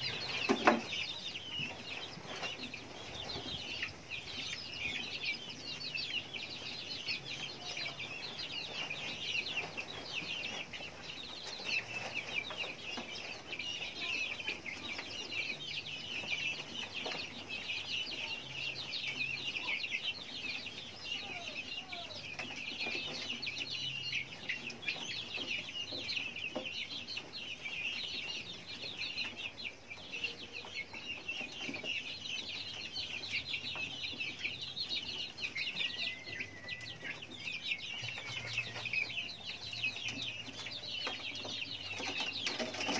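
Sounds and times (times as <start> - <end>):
young guinea fowl chirping: 0.0 - 42.9.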